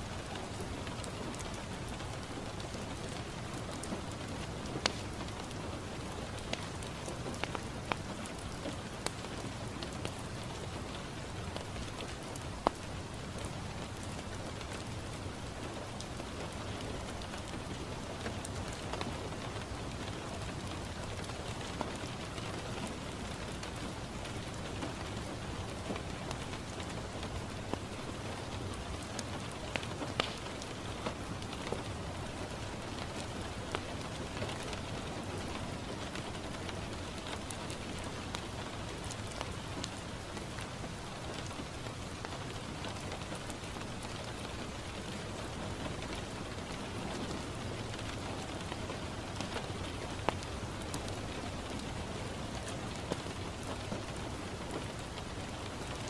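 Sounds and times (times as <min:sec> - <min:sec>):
rain falling on a window: 0:00.0 - 0:56.0
wood fire popping and crackling: 0:00.1 - 0:56.0.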